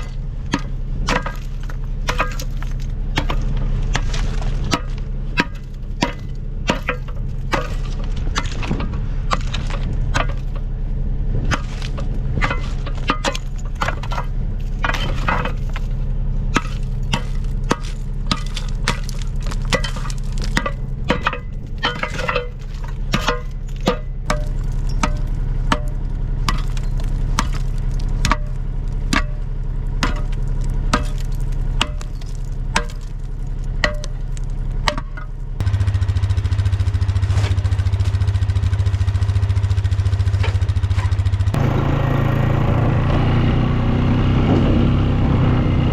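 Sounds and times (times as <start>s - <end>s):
sharp metal clanks and knocks: 0.0s - 10.8s, 11.4s - 41.6s
engine running: 0.0s - 45.9s.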